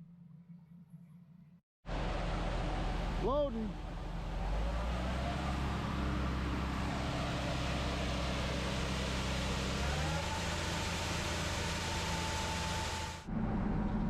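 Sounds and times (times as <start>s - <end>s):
thin engine whine: 1.9s - 14.0s
tractor engine droning: 1.9s - 14.0s.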